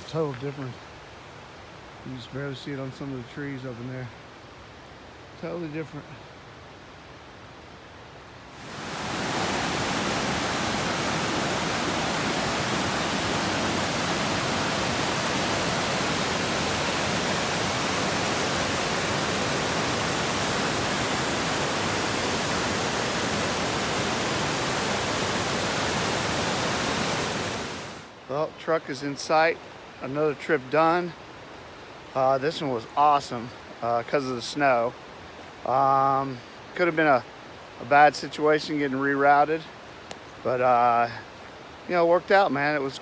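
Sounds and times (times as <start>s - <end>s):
creek water rushing over cascades: 0.0s - 43.0s.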